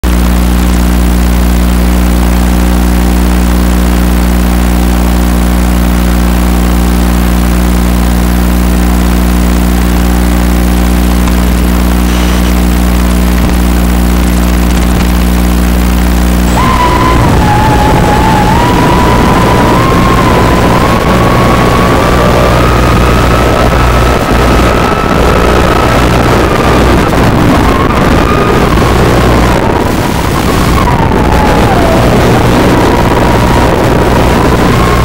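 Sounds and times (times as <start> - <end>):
quadcopter hum: 0.0 - 35.0.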